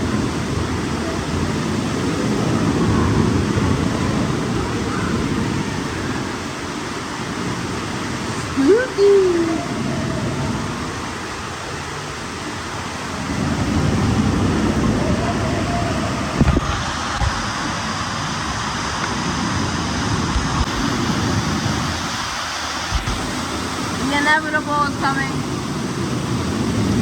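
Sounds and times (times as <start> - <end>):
water rushing: 0.0 - 27.0
wind on microphone: 0.0 - 27.0.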